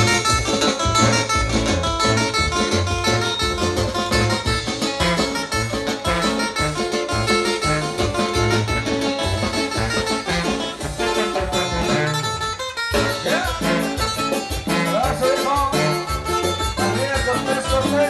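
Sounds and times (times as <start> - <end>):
dance music with strummed strings: 0.0 - 18.0.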